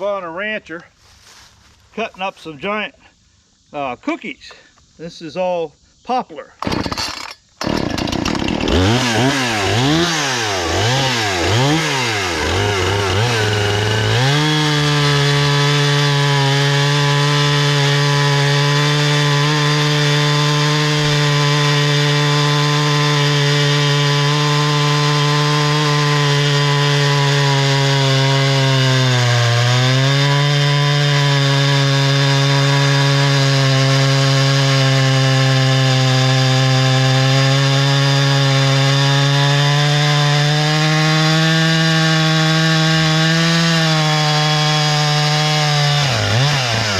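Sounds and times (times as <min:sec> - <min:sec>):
chainsaw revving and cutting wood: 0:06.6 - 0:46.9.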